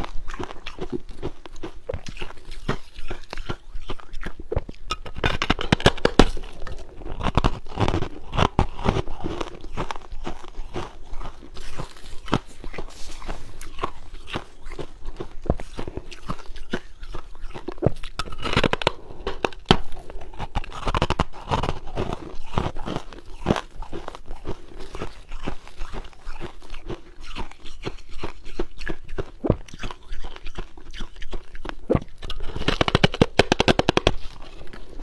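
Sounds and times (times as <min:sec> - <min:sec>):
person crunching ice: 0:00.0 - 0:35.0.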